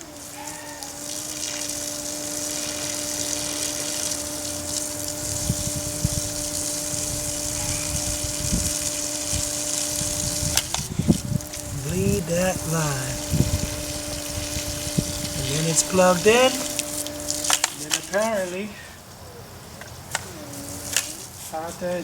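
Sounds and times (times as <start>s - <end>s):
pressure washer hum: 0.0s - 22.0s
water gushing hiss: 0.0s - 22.0s.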